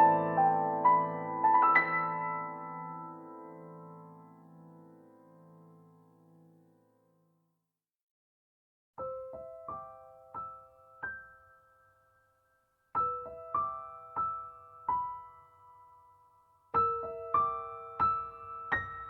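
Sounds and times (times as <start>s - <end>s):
slow piano melody: 0.0s - 6.8s, 9.0s - 19.0s.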